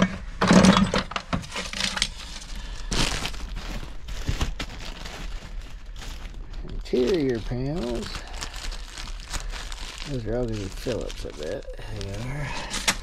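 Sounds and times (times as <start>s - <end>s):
plastic pieces clattering in bucket: 0.0s - 13.0s
rustling shuffle: 1.4s - 13.0s.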